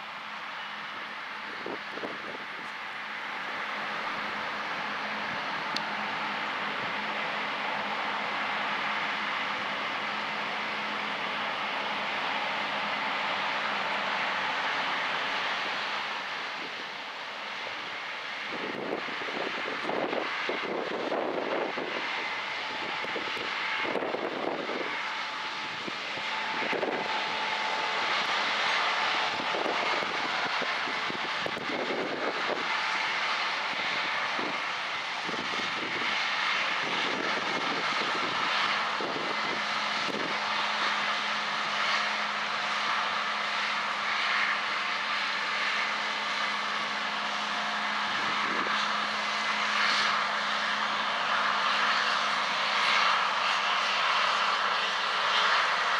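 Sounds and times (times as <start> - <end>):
combine harvester drone: 0.0 - 55.9.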